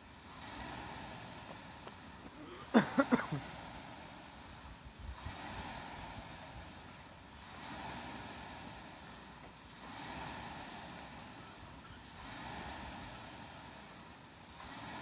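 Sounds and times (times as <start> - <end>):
rowing machine fan whooshing: 0.0 - 15.0.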